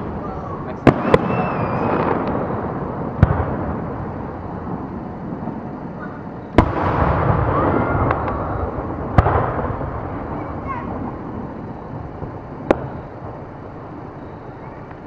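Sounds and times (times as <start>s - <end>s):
fireworks bangs: 0.0s - 15.0s
rumble of firework bursts: 0.0s - 15.0s.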